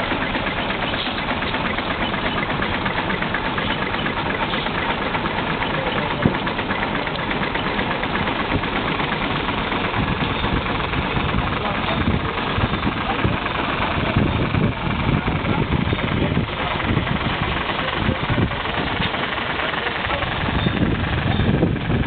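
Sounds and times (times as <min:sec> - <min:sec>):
steam engine running: 0:00.0 - 0:22.0.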